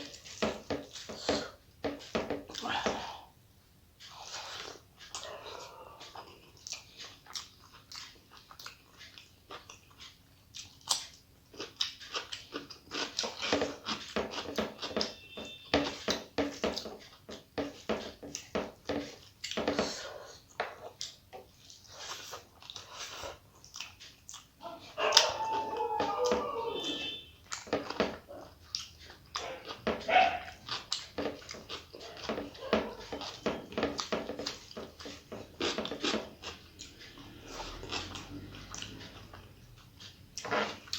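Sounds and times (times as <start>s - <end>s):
wet chewing and lip-smacking: 4.0s - 40.9s.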